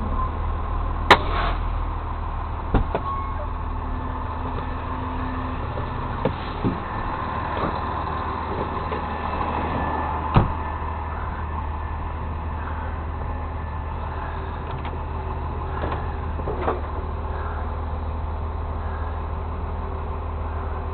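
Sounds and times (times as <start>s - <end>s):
truck engine idling: 0.0s - 20.9s.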